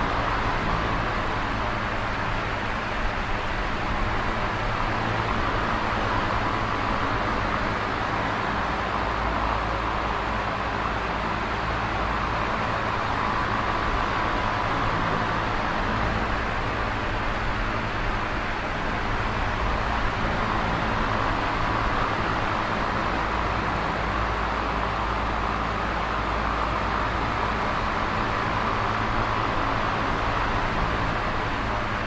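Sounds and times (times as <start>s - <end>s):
air rushing from fan: 0.0s - 32.0s
fan motor hum: 0.0s - 32.0s.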